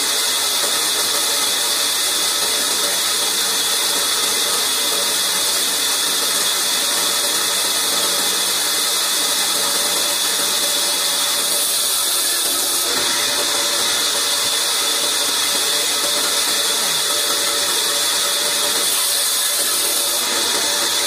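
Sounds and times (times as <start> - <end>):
band saw whirring and hissing: 0.0 - 21.0.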